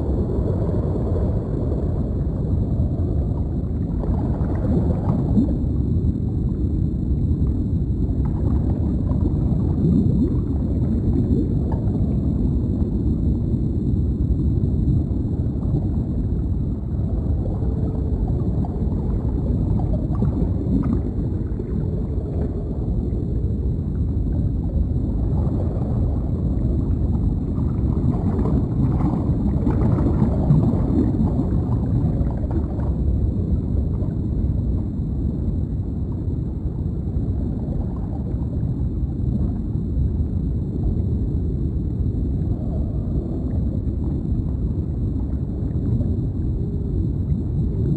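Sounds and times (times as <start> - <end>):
gurgling bubbles: 0.0 - 47.9
low underwater rumble: 0.0 - 47.9.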